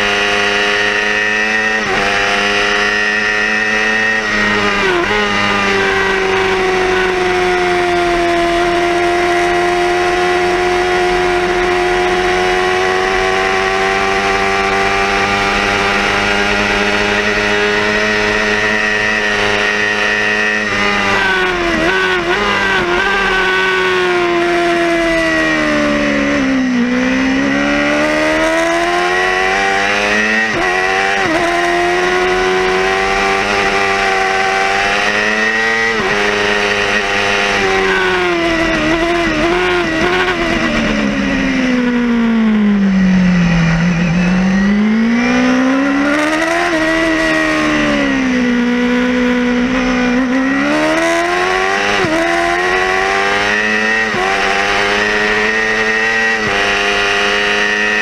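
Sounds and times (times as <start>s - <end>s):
motorcycle engine at racing revs: 0.0s - 58.0s.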